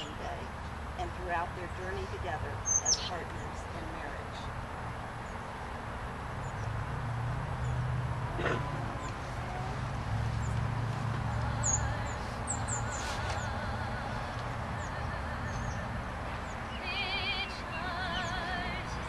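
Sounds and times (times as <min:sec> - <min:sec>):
faint wavering music: 0:00.0 - 0:04.6, 0:07.8 - 0:19.0
birds chirping: 0:00.0 - 0:19.0.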